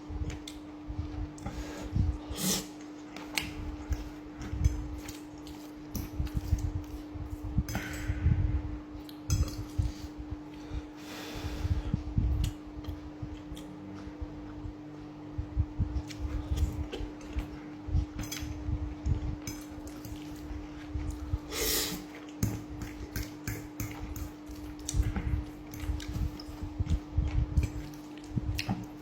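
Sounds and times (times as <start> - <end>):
low hum: 3.4 - 29.0.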